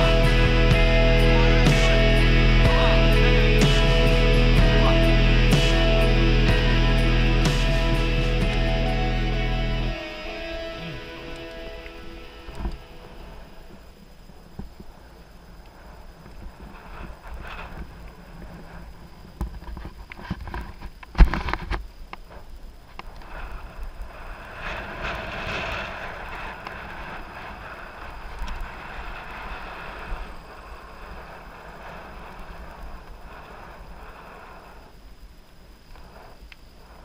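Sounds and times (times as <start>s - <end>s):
tyres and wind rushing hiss: 0.0s - 37.0s.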